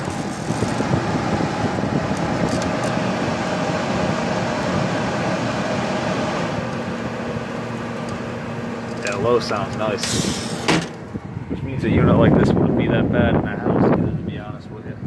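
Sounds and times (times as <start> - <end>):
low motor hum: 0.0 - 13.5
air conditioner fan blowing air: 0.0 - 15.0.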